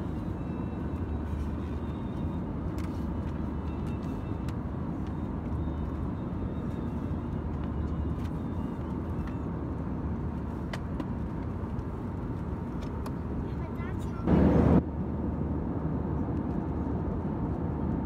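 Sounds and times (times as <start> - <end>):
aircraft engines and airflow roar: 0.0 - 18.0.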